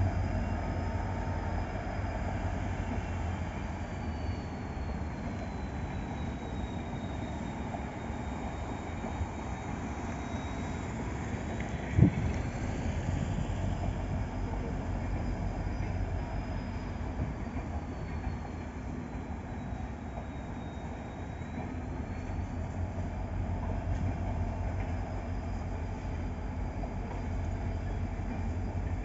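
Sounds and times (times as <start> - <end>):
distant train rumble: 0.0 - 29.0.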